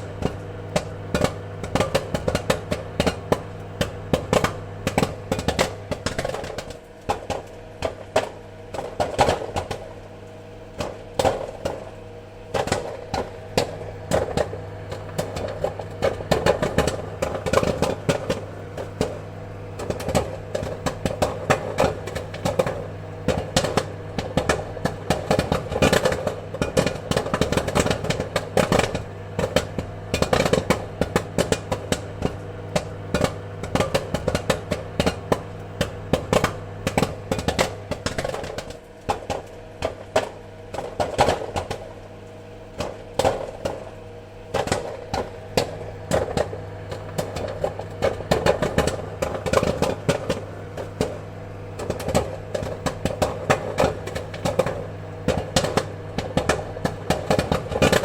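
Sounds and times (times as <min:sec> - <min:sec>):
popcorn kernels popping: 0:00.0 - 0:58.0
steady low hum: 0:00.0 - 0:58.0.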